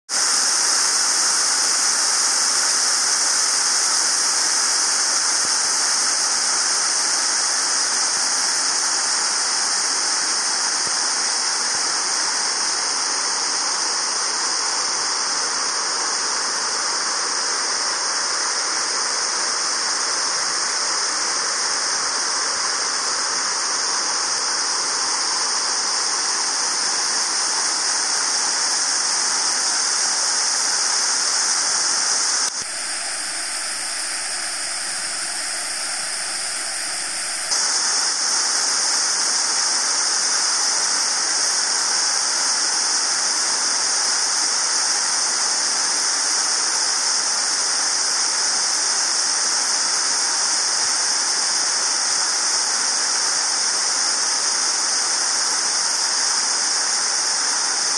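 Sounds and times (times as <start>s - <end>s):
waterfall rushing: 0.1s - 57.9s.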